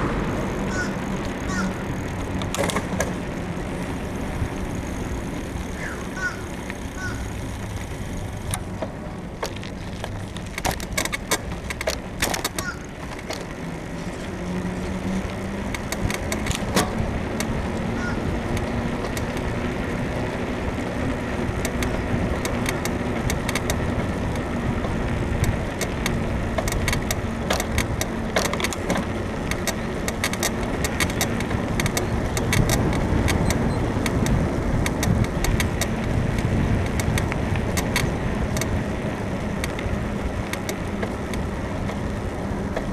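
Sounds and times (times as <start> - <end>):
bicycle frame creaking and clicking: 0.0 - 42.9
wind and road noise: 0.0 - 42.9.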